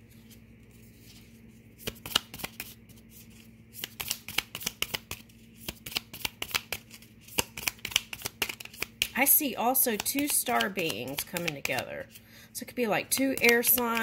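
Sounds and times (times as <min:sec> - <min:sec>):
cards being shuffled: 0:00.2 - 0:12.2, 0:13.2 - 0:14.0.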